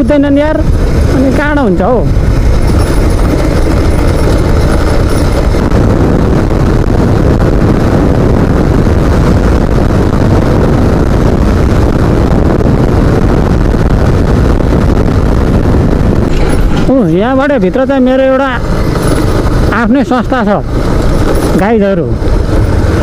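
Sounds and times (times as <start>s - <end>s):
motorcycle engine running: 0.0s - 23.0s
wind noise on microphone: 0.0s - 23.0s.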